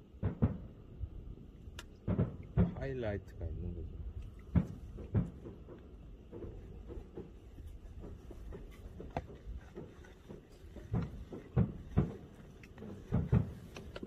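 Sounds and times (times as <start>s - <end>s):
distant fireworks booming: 0.0s - 1.3s, 2.0s - 3.1s, 4.5s - 14.0s.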